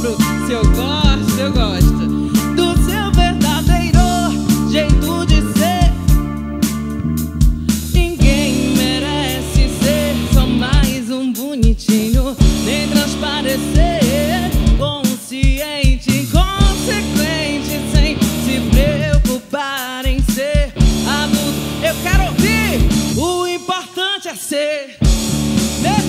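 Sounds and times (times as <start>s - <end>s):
woman singing: 0.0s - 6.2s, 7.7s - 25.0s
bass guitar: 0.0s - 11.2s, 12.2s - 15.0s, 15.8s - 19.4s, 20.6s - 23.5s, 25.0s - 26.0s
electric guitar: 0.0s - 11.3s, 12.2s - 15.3s, 15.9s - 19.4s, 20.1s - 23.6s, 25.0s - 26.0s
drum kit: 0.0s - 23.9s, 25.0s - 26.0s.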